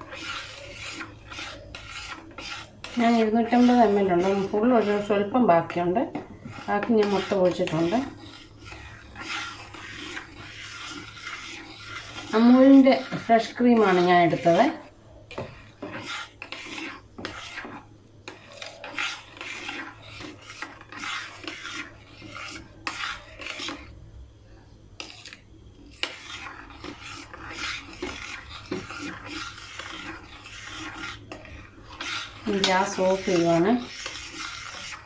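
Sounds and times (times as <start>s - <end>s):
utensil scraping a pan: 0.0s - 24.0s, 25.0s - 35.0s.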